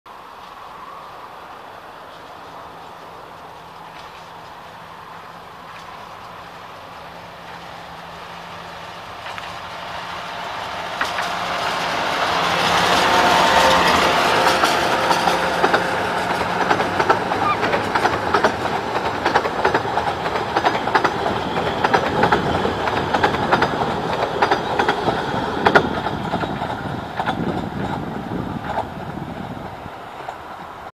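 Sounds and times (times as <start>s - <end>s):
wheels clicking over rail joints: 1.5s - 30.9s
diesel locomotive engine running: 2.6s - 30.8s.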